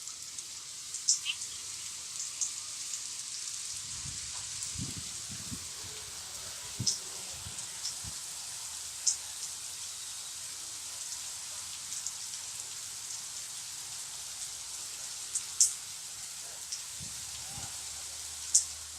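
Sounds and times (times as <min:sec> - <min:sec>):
raindrops ticking close by: 0:00.0 - 0:18.9
steady rain falling: 0:00.0 - 0:18.9.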